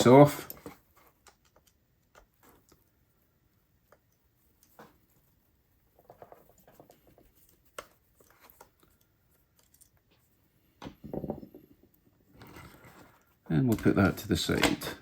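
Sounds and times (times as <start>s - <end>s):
small clicks and scraping: 0.4s - 3.1s, 3.8s - 10.9s, 11.9s - 14.9s.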